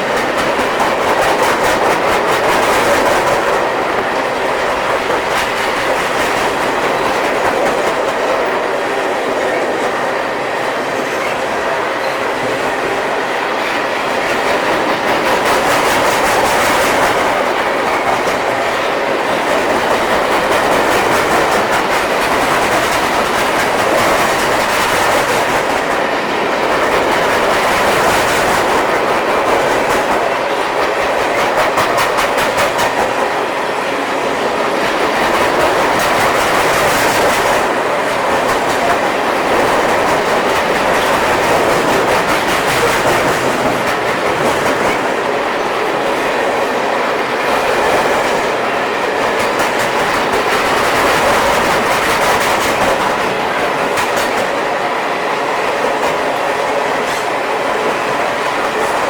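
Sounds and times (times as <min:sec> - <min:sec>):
steel wheels rumbling on rail: 0:00.0 - 0:59.0
wheels clickety-clack on rail joints: 0:00.0 - 0:59.0.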